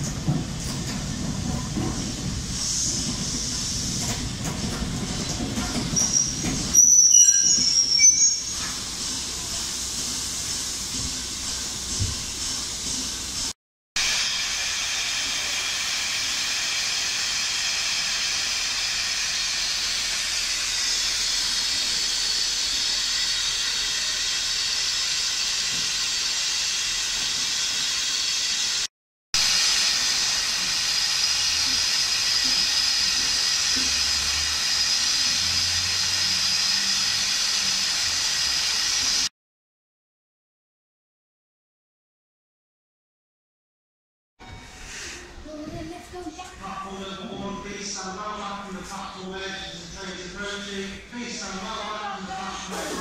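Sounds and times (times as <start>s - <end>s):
steam locomotive hissing: 0.0s - 39.3s, 44.7s - 45.5s, 48.0s - 53.0s.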